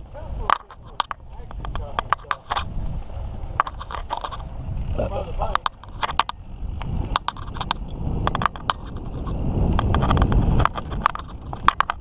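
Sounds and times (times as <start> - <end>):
bike clicks and rattles: 0.0 - 12.0
bike tyres rumbling on dirt: 0.0 - 12.0
wind on microphone: 0.0 - 12.0.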